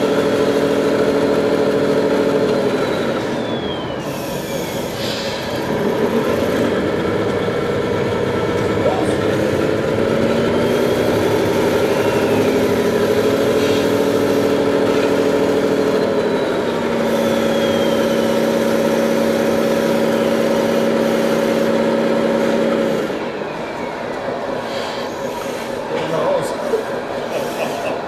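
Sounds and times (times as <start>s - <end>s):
model truck engine-like drone: 0.0s - 28.0s.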